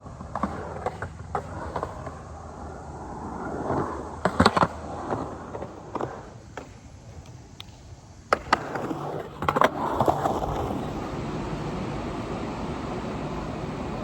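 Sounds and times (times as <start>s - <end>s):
skateboard clacks and impacts: 0.0s - 14.0s
skateboard rolling on concrete: 0.0s - 14.0s.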